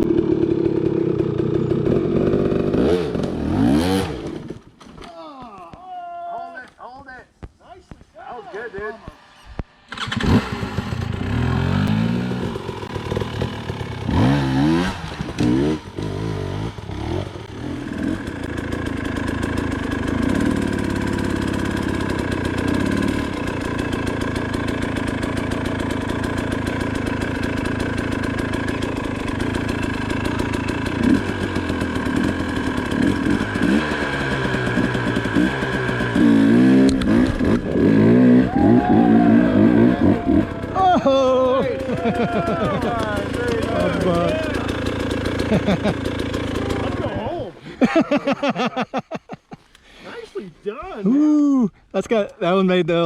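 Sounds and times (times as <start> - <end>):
dirt bike engine revving and idling: 0.0 - 4.6, 9.3 - 49.0.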